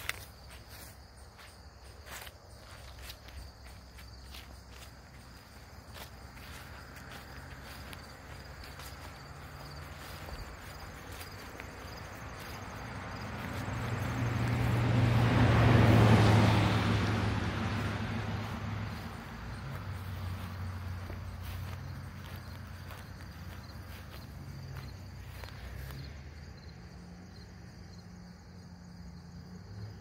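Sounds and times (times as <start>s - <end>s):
crickets chirping: 0.0s - 30.0s
vehicle passing: 0.0s - 30.0s.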